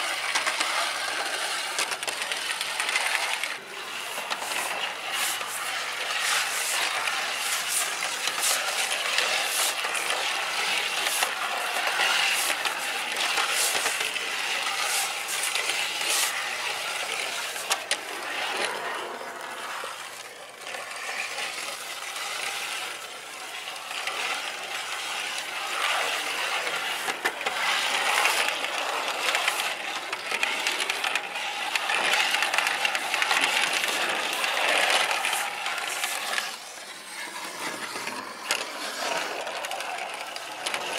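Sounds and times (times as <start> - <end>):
plastic toy wheels rattling on floor: 0.0 - 40.9.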